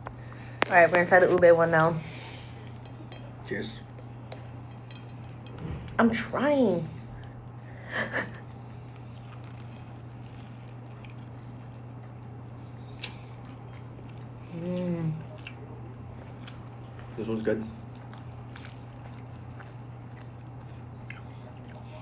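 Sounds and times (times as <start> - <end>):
person eating quietly: 0.0 - 6.0, 6.8 - 22.0
steady low hum: 0.0 - 22.0.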